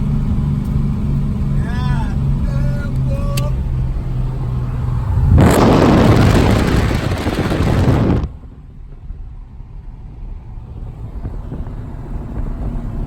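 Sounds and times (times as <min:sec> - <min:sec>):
car engine roaring: 0:00.0 - 0:13.0
low engine rumble: 0:00.0 - 0:13.0.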